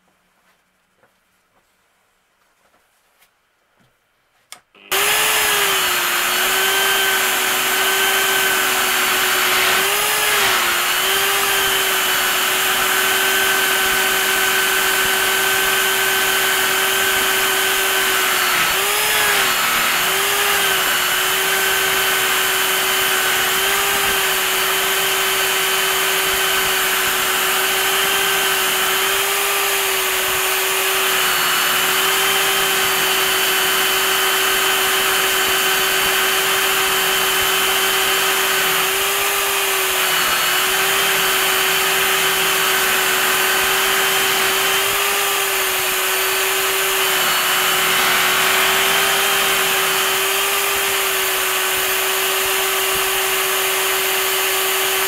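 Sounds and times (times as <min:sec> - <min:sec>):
drill press motor hum: 0:04.8 - 0:55.0.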